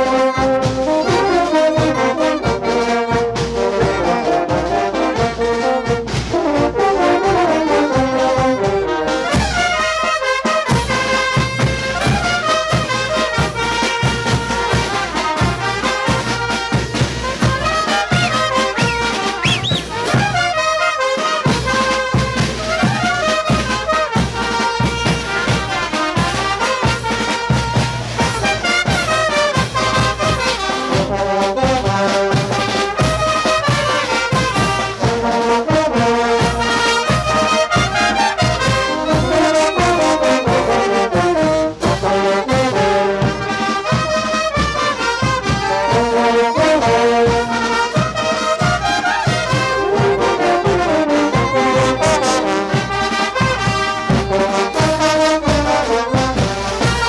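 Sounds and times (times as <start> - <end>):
brass band playing dance tune: 0.0 - 57.0.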